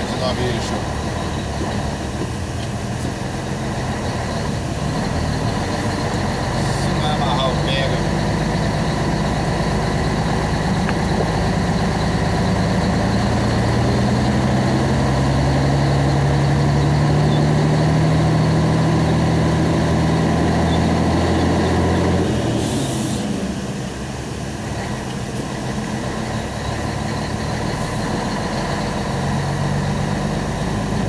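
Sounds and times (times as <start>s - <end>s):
truck diesel engine pulling: 0.0s - 31.0s.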